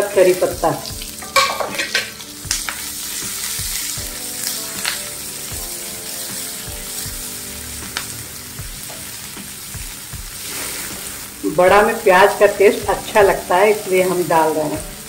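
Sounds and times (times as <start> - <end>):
onion sizzling in hot oil: 0.0 - 15.0.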